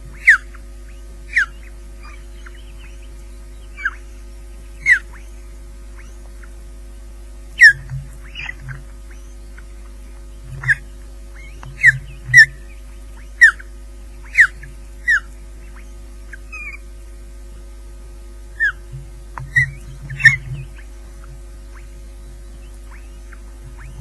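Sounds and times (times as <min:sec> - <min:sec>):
ospreys chirping: 0:00.0 - 0:17.5, 0:18.1 - 0:24.0
steady electrical hum: 0:00.0 - 0:24.0.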